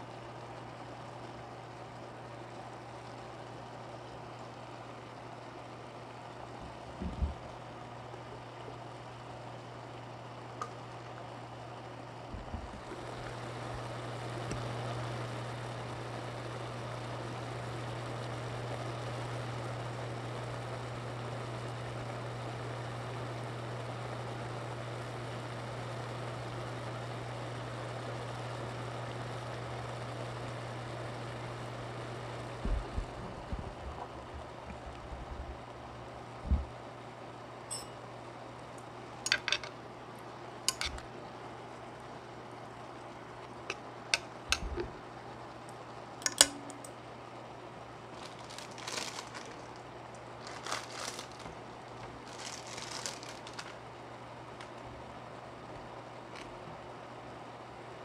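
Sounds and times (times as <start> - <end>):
cooktop humming: 0.0 - 58.0.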